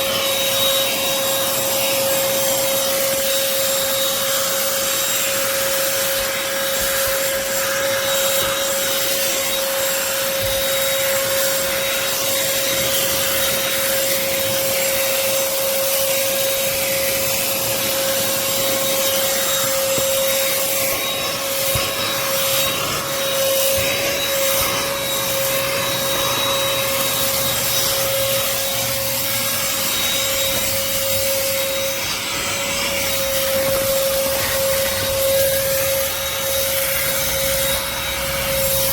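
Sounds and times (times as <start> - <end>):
handheld vacuum running: 0.0 - 38.9.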